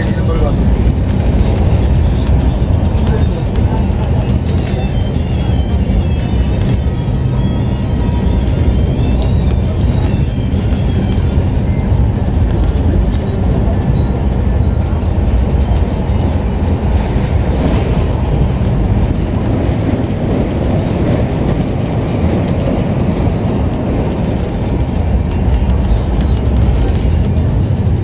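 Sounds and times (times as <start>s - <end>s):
track clatter: 0.0s - 28.0s
train wheels rumbling on rails: 0.0s - 28.0s.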